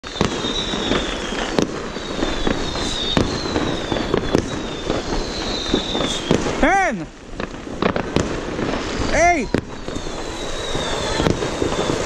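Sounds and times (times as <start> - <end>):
falling firework whistles: 0.0 - 12.0
firework bangs: 0.0 - 12.0
fireworks crackling and rumbling: 0.0 - 12.0.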